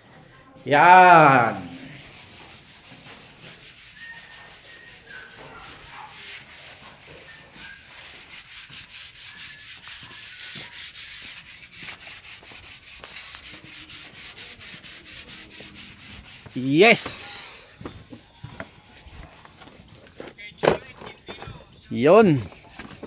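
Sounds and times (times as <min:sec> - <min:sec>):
hand sanding a wall: 0:01.1 - 0:20.2.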